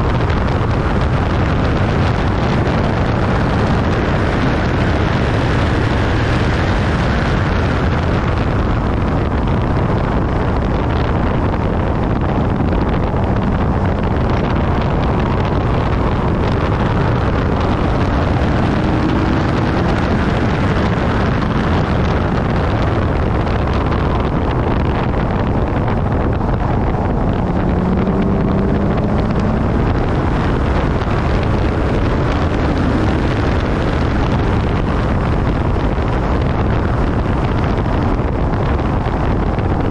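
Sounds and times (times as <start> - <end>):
car engine pulling hard: 0.0 - 39.9
wind rush on microphone: 0.0 - 39.9.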